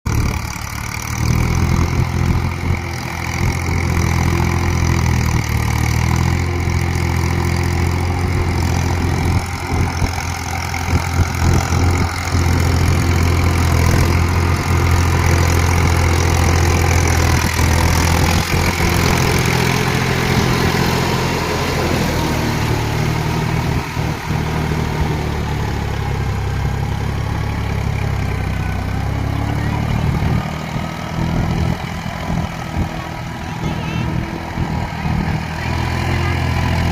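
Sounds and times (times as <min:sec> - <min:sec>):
tractor diesel engine running: 0:00.0 - 0:36.9
rotavator tilling soil: 0:00.1 - 0:36.9.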